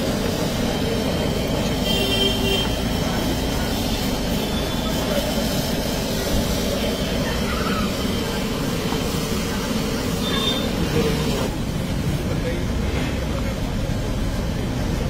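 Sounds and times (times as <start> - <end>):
food cooking on a griddle: 0.0 - 15.0.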